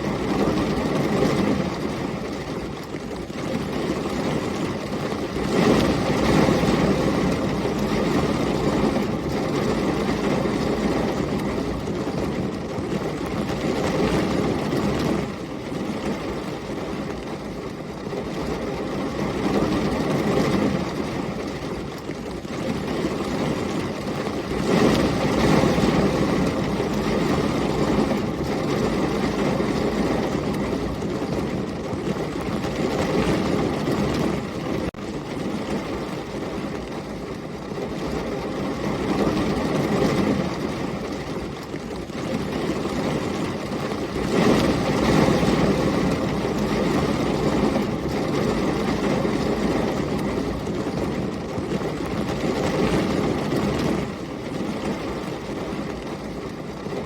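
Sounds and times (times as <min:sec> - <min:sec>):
heavy rain: 0:00.0 - 0:57.0
storm wind: 0:00.0 - 0:57.0.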